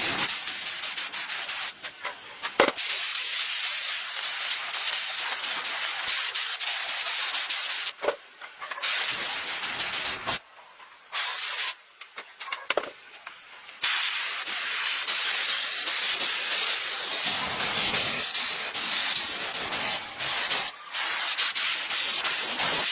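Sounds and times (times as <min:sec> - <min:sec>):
loud steady spray hiss: 0:00.0 - 0:01.9, 0:02.8 - 0:08.0, 0:08.8 - 0:10.4, 0:11.1 - 0:11.8, 0:13.8 - 0:22.9.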